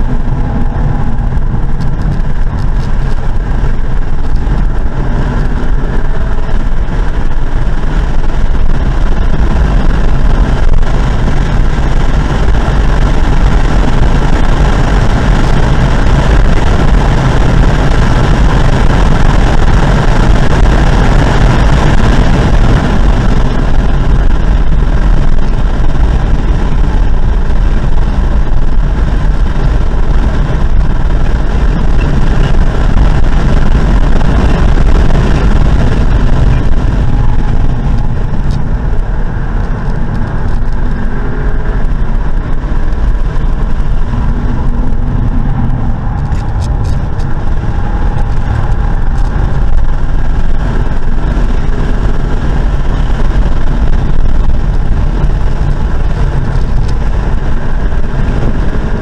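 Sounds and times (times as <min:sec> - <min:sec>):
car engine running hard: 0:00.0 - 0:59.0
road noise: 0:00.0 - 0:59.0
wind noise: 0:00.0 - 0:59.0.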